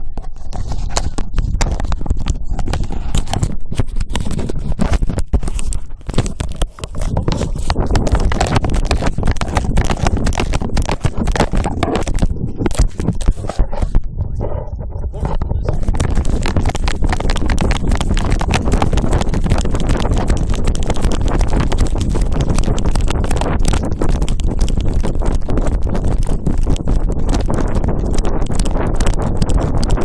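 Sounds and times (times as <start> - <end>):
low rumble: 5.8 - 30.0.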